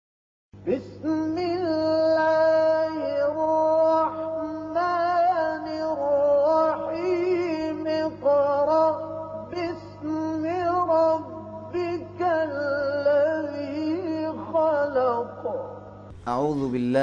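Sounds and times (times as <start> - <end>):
faint low hum: 0.6 - 17.0
person chanting: 0.7 - 17.0.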